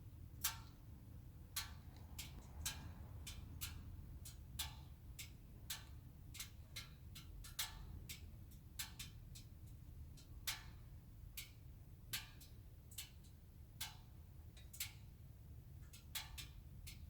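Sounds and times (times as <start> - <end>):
cooling engine ticking: 0.3 - 15.0.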